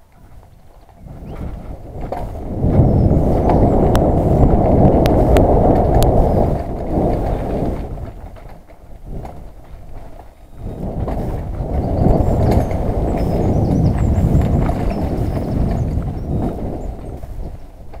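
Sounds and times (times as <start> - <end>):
bike rattling: 0.0 - 18.0
bike tyres rumbling on gravel: 0.0 - 18.0.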